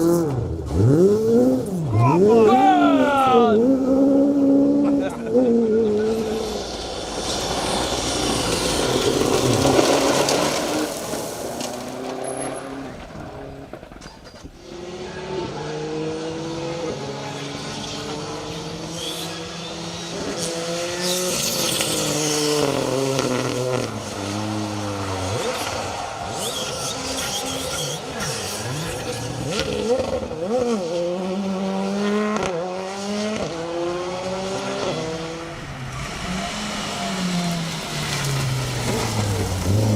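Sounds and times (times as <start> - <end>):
rally car passing at speed: 0.0 - 14.0, 14.6 - 39.9
car engine shifting gears: 3.5 - 39.9.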